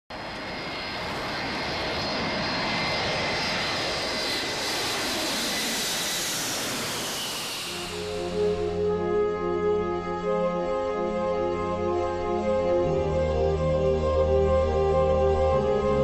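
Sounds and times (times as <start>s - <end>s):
jet airliner passing overhead: 0.1s - 16.0s.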